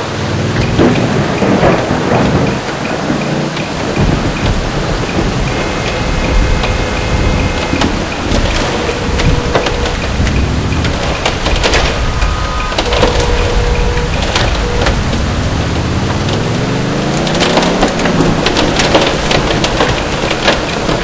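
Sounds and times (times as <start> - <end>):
hailstones ticking on a car: 0.0 - 21.0
heavy rain on a car: 0.0 - 21.0.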